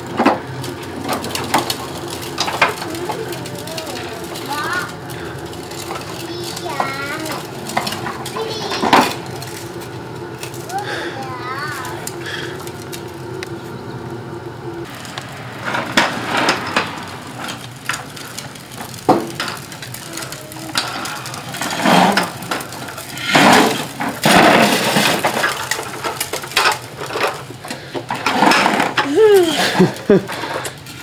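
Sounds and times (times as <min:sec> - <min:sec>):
plastic wheels rolling over concrete: 0:00.0 - 0:31.0.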